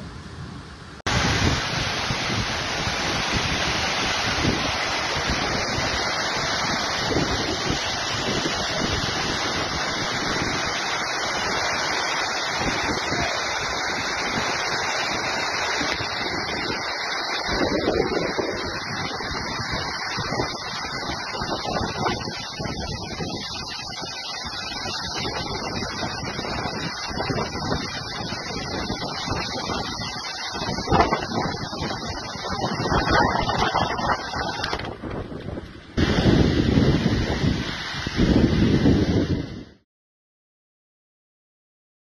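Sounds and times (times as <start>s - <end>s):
wind buffeting microphone: 0.0s - 39.8s
floodwater rushing: 1.1s - 39.4s.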